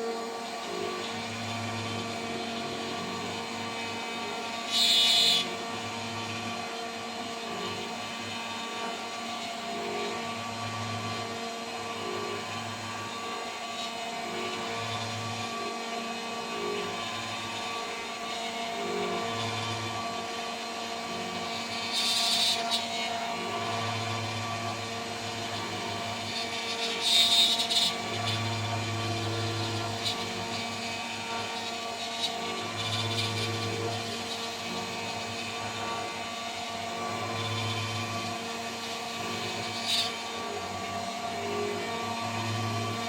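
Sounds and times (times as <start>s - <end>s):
end mill cutting: 0.0s - 43.0s
router spindle whine: 0.0s - 43.0s.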